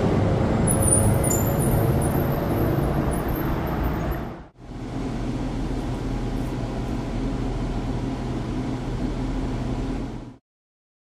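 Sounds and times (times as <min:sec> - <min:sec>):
tram running hum: 0:00.0 - 0:10.4.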